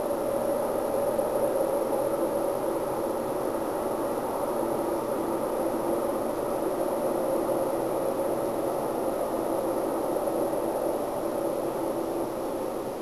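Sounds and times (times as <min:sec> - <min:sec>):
droning hum with two tones: 0:00.0 - 0:13.0.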